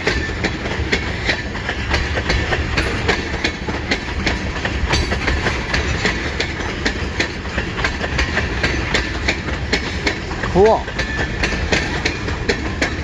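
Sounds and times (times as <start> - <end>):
train rumble: 0.0 - 13.0
train wheels clacking: 0.0 - 13.0.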